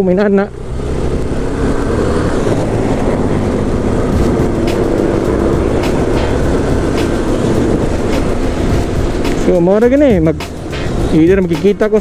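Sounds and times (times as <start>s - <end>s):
motorcycle engine cruising: 0.0s - 12.0s
wind noise on microphone: 0.6s - 11.5s.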